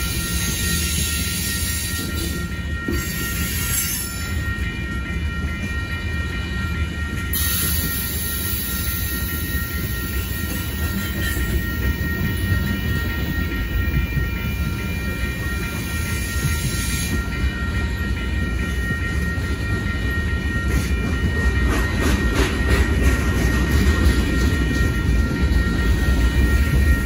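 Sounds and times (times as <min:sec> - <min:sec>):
crossing bell ringing: 0:00.0 - 0:27.0
freight train wheels rumbling: 0:00.0 - 0:27.0.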